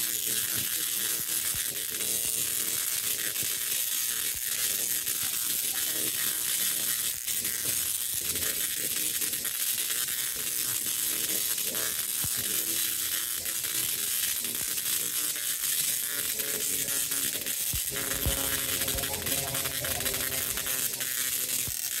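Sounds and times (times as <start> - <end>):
tesla coil sparks buzzing: 0.0 - 22.0.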